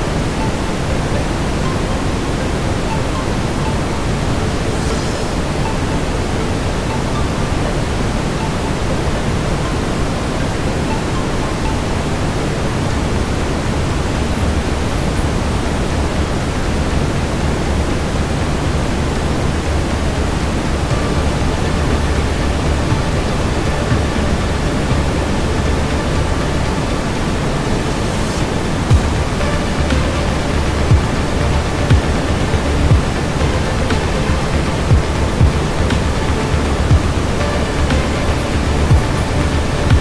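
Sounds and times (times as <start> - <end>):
brown noise hiss: 0.0 - 40.0.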